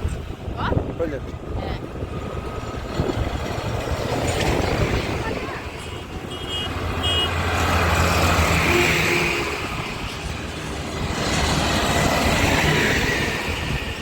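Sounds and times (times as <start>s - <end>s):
tractors driving past: 0.0s - 14.0s.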